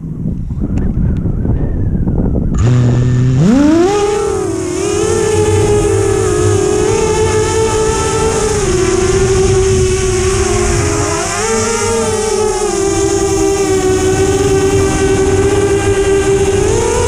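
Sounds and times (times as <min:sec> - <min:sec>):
low rumble with clicks: 0:00.0 - 0:17.0
drone motors whining: 0:01.5 - 0:17.0.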